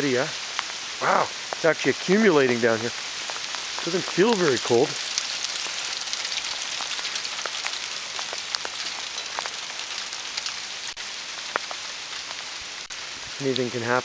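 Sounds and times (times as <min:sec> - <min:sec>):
hailstones falling on ground: 0:00.0 - 0:14.0.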